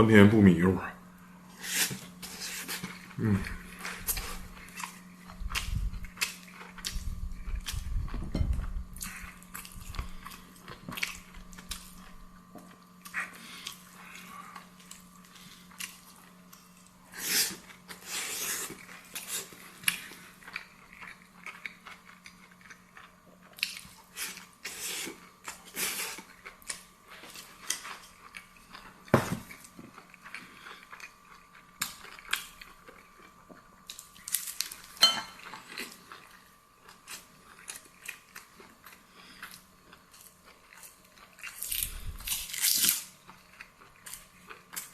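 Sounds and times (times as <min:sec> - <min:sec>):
faint steady hum: 0:00.0 - 0:44.9
chewing and biting: 0:02.3 - 0:44.9.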